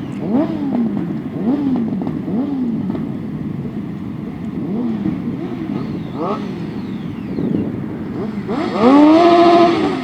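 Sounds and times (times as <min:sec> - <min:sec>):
motorcycle engine revving: 0:00.0 - 0:10.0
other engines running: 0:00.0 - 0:10.0.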